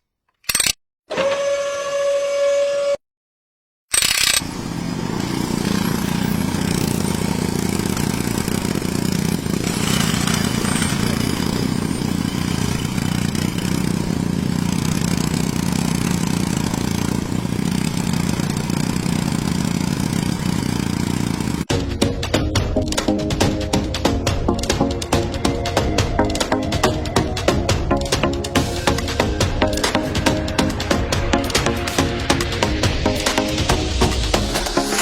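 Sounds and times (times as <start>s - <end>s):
small gear motors humming: 4.0s - 35.0s.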